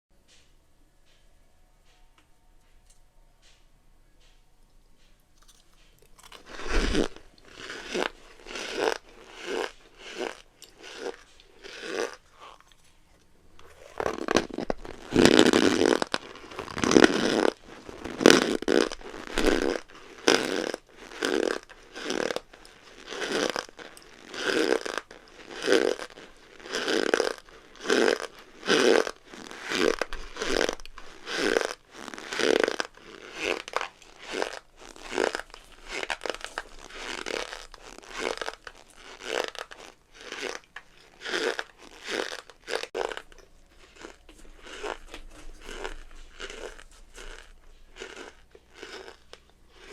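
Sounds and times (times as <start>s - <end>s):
cornstarch squeezed creaking: 6.0s - 12.8s, 13.6s - 49.9s.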